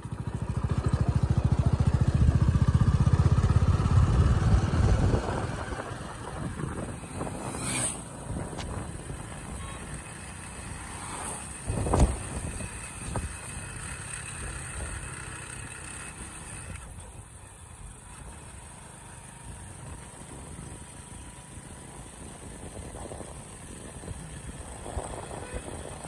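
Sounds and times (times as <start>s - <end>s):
motorcycle engine running: 0.0s - 26.0s
road and air noise: 0.0s - 26.0s.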